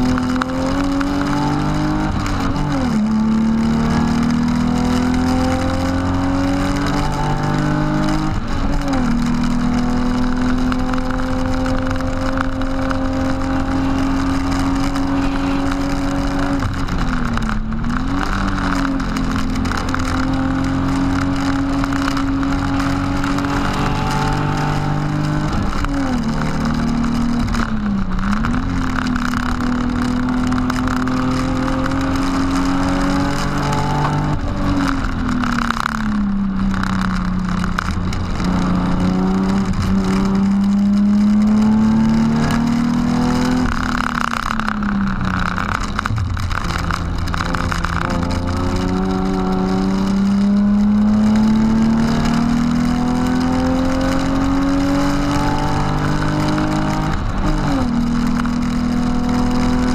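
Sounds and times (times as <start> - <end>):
car engine revving and shifting: 0.0 - 59.9.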